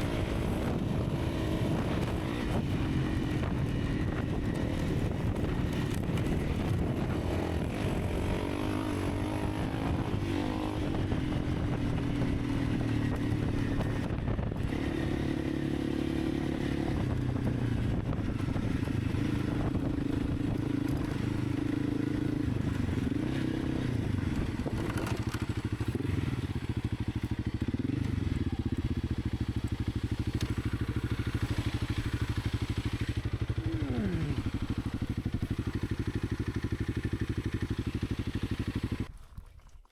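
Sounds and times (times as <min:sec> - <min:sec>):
motorcycle engine running: 0:00.0 - 0:39.1.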